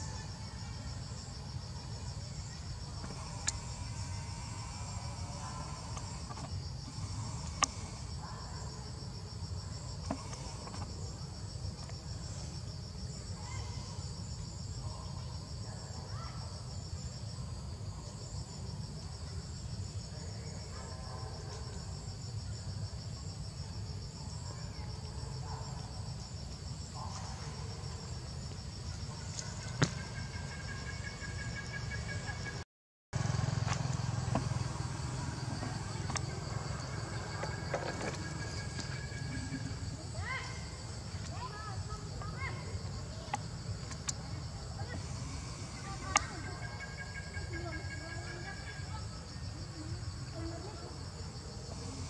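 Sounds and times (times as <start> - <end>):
insects trilling: 0.0 - 32.6, 33.2 - 52.0.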